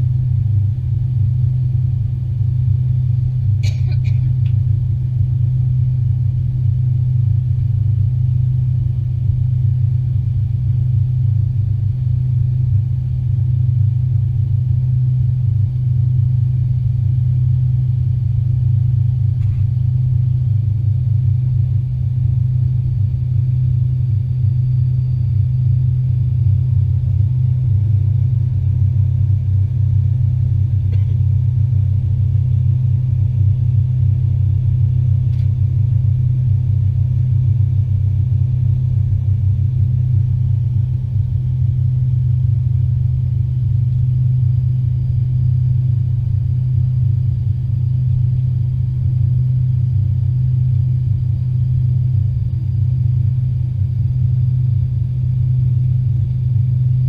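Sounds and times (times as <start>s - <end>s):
aircraft cabin drone: 0.0s - 57.0s.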